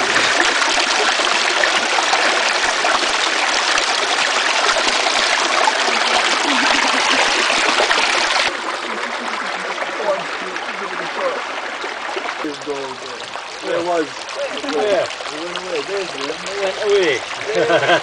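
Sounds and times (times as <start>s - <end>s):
stream water rushing over rocks: 0.0s - 18.0s.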